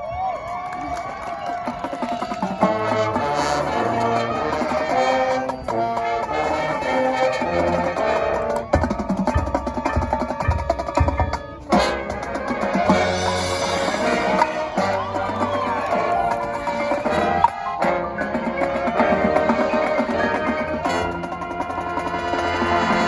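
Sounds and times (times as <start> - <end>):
marching band brass chords: 1.0 - 23.0.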